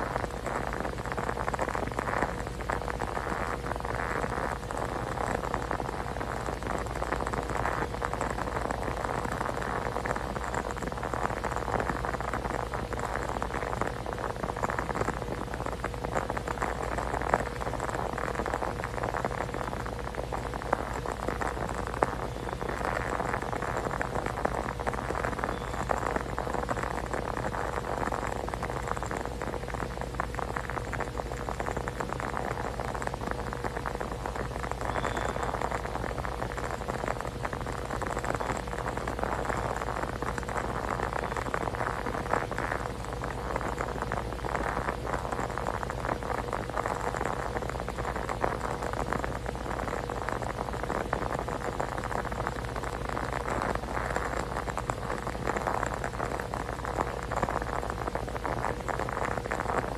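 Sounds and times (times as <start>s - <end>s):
crackling hiss with ticks: 0.0s - 59.9s
faint steady hum: 0.0s - 59.9s.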